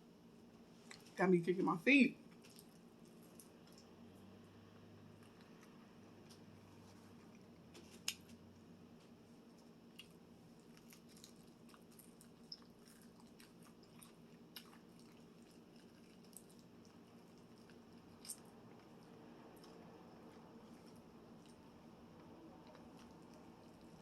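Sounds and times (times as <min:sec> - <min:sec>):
low steady hum: 0:00.0 - 0:24.0
chewing crispy chicken: 0:02.2 - 0:24.0.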